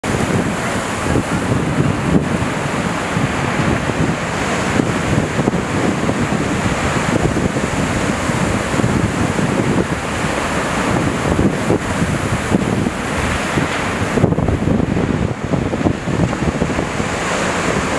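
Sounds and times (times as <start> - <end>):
surf washing over rock: 0.0 - 17.9
wind buffeting microphone: 0.0 - 17.9.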